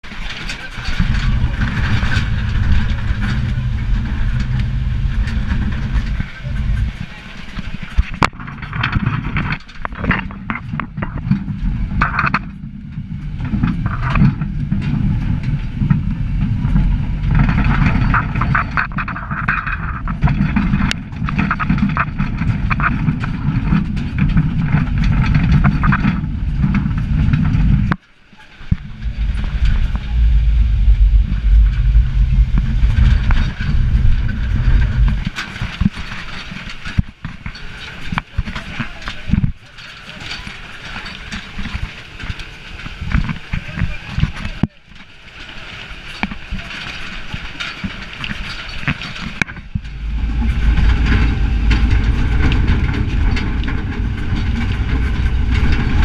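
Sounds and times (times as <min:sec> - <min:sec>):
rattling and knocking: 0:00.0 - 0:28.0, 0:28.6 - 0:41.9, 0:47.8 - 0:56.0
truck rumbling on bumpy road: 0:00.0 - 0:56.0.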